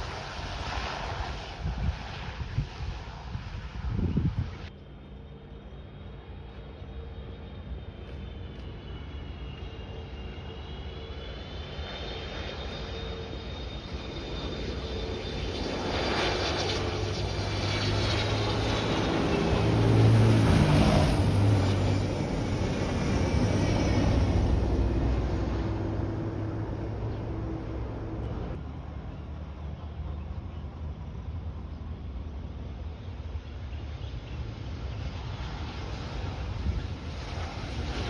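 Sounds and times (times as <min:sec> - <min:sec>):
jet airliner engines whining: 0:00.0 - 0:38.0.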